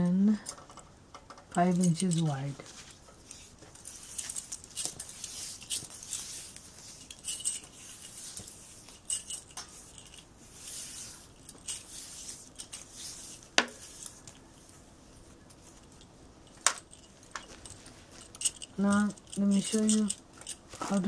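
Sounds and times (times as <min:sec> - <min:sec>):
bangles jingling: 0:01.5 - 0:14.8, 0:15.5 - 0:21.0.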